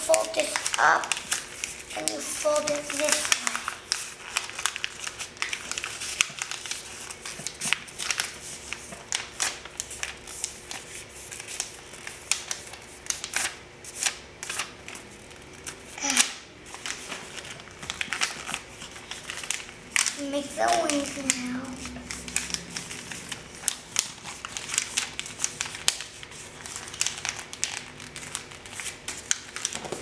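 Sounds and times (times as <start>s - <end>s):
paper being folded and creased: 0.0s - 30.0s.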